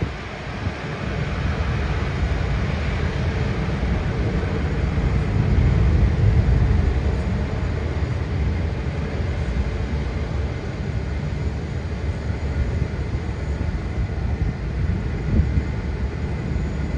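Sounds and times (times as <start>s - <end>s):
jet airliner engines rumbling: 0.0s - 16.9s.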